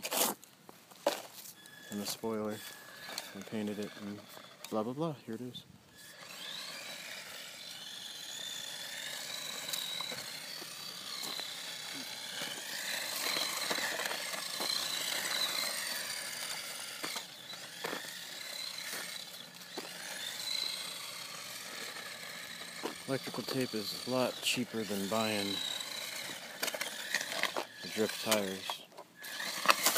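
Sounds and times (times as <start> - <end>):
rc car motor whining: 1.1 - 29.9.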